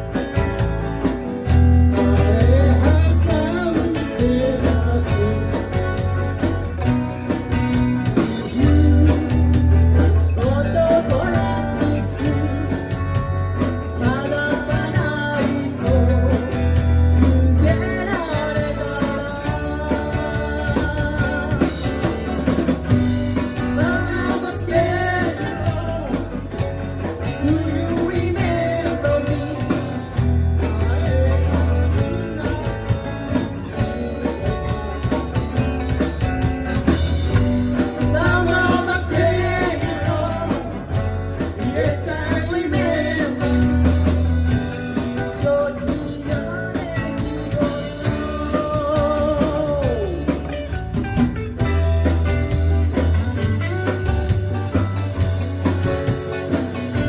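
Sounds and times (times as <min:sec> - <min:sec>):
person singing: 0:00.0 - 0:50.8
bass: 0:00.0 - 0:57.0
drums: 0:00.0 - 0:57.0
guitar: 0:00.0 - 0:57.0.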